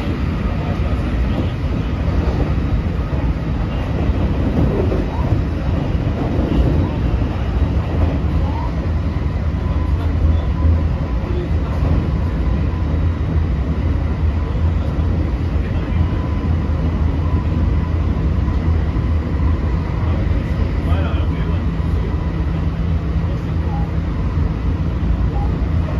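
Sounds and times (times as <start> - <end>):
train motors and wheels rumbling: 0.0 - 25.9.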